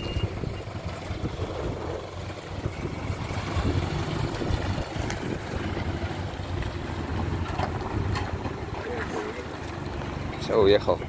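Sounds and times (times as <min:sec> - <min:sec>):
truck engine rumbling: 0:00.0 - 0:11.0
tyres rolling over gravel: 0:00.1 - 0:11.0.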